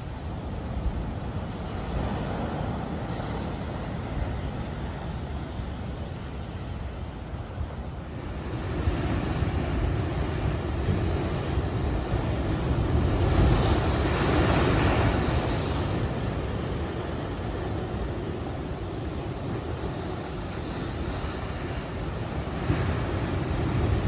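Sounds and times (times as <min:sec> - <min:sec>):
ocean waves crashing: 0:00.0 - 0:24.0
wind buffeting the microphone: 0:00.0 - 0:24.0.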